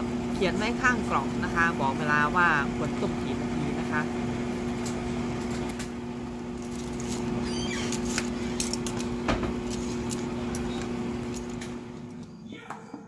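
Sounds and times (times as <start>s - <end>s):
water boiling in pot: 0.0s - 12.2s.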